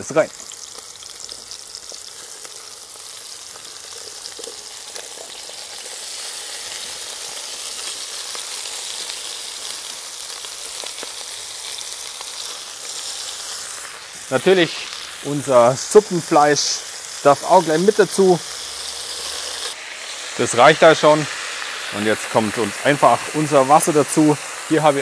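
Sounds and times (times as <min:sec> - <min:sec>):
meat and vegetables sizzling: 0:00.0 - 0:25.0.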